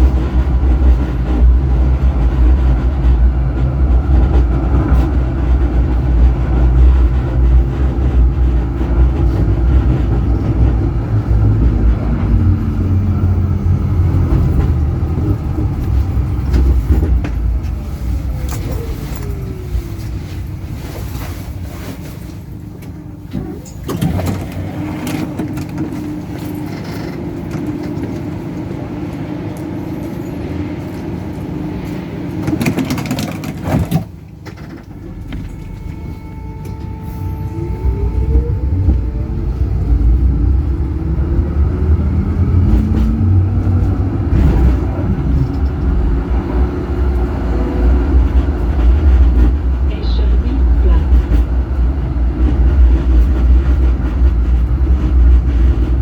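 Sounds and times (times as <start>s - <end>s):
tram motor whine: 0.0s - 56.0s
tram rumbling on rails: 0.0s - 56.0s.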